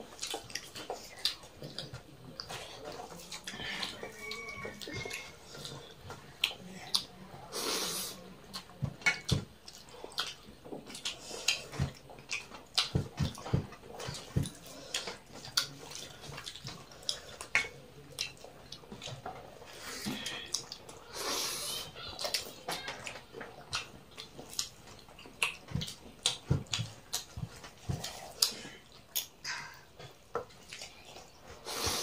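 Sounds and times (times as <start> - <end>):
chewing and lip smacks: 0.0 - 7.2, 8.5 - 21.1, 22.1 - 31.6.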